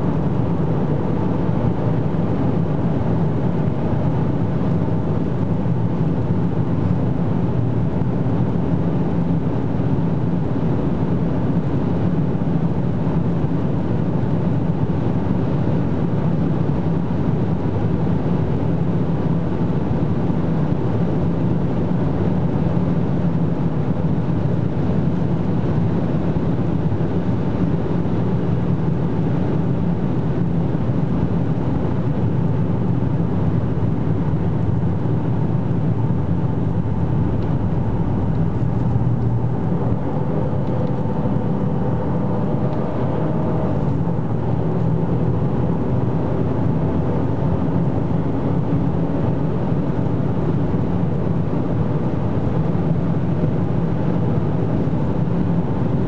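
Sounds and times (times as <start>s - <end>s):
car engine drone: 0.0s - 56.0s
wind noise in car cabin: 0.0s - 56.0s.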